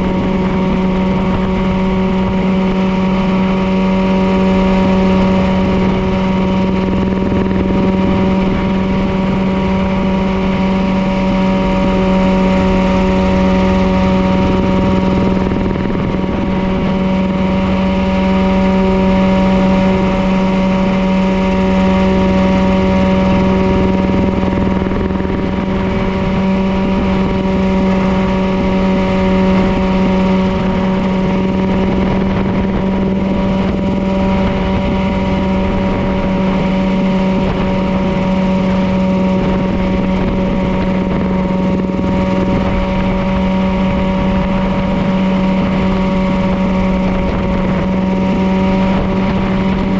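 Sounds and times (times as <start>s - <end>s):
helicopter engine and rotors droning: 0.0s - 49.9s.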